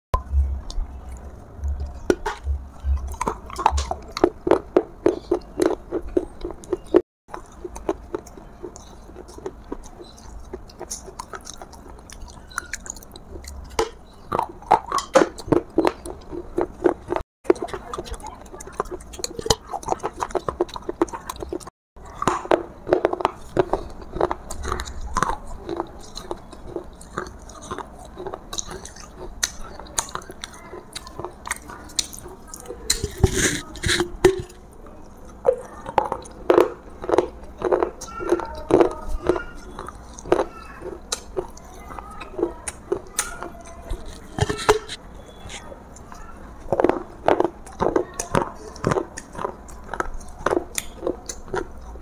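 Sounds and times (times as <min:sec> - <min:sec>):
person chewing clay pot pieces: 0:00.2 - 0:52.0.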